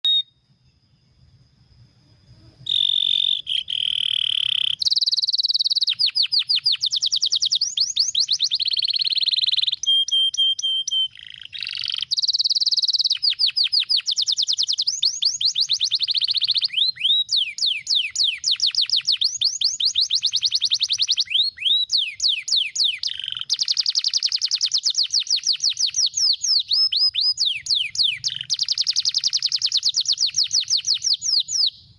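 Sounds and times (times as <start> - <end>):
canary singing trills: 0.0 - 31.9.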